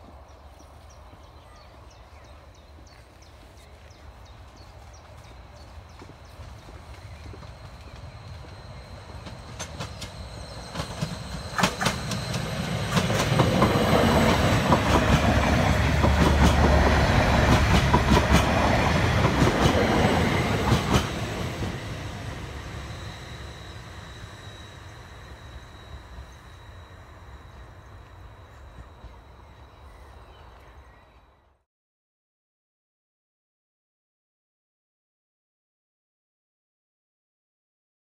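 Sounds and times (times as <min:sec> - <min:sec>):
passenger train rumble: 0:00.0 - 0:31.6.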